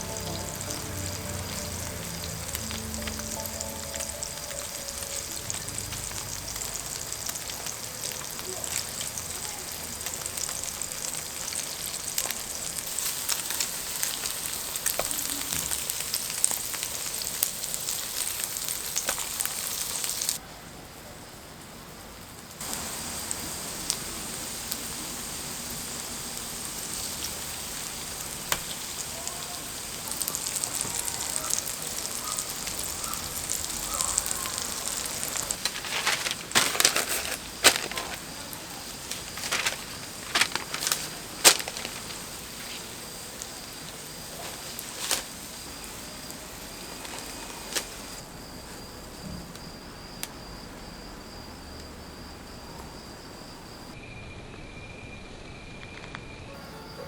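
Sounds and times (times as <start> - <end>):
battered food frying in oil: 0.0 - 20.4, 21.2 - 54.0.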